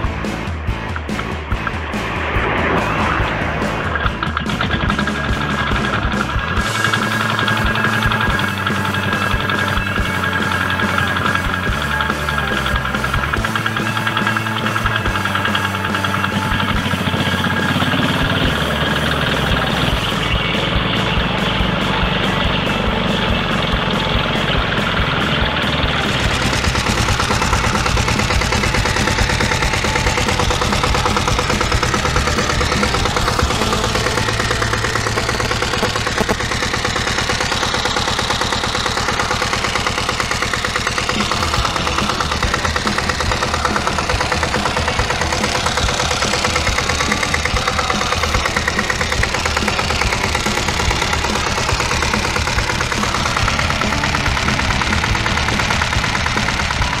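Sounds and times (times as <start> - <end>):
diesel engine idling knock: 0.0 - 57.0.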